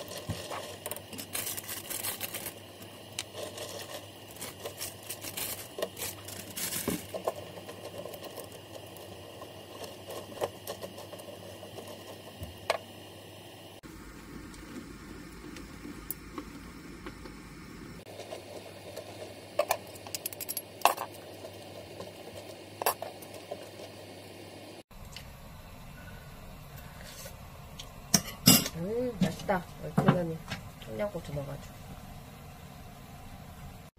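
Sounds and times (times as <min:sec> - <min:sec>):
simmering broth hiss: 0:00.0 - 0:29.6.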